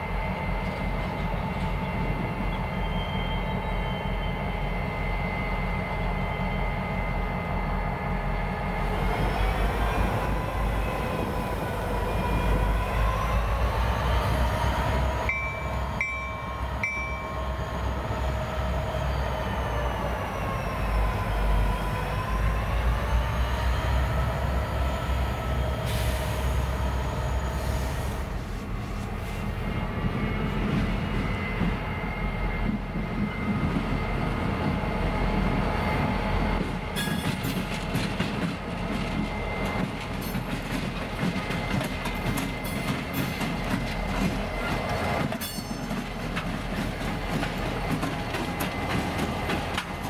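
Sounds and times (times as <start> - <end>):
locomotive engine rumble: 0.0 - 50.0
locomotive whine: 0.0 - 50.0.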